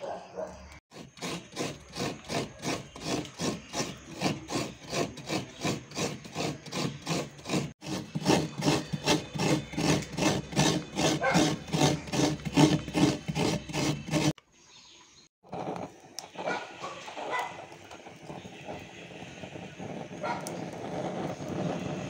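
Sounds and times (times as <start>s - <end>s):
coconut grater rasping: 0.9s - 14.4s, 15.4s - 22.0s.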